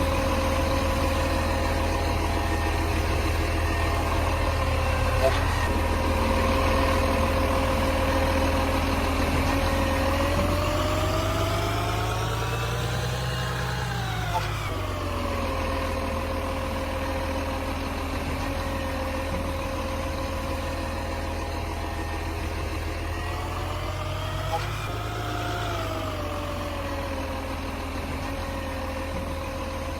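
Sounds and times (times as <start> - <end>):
garbage truck engine idling and revving: 0.0 - 29.9.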